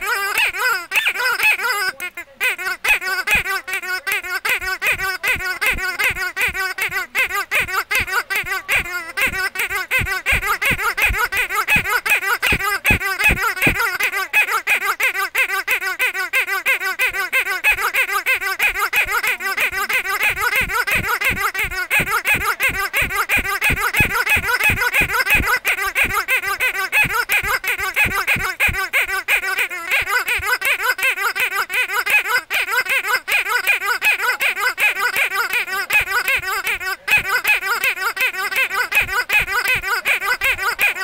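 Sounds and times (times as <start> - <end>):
squeaky toy squeaking: 0.0 - 41.0.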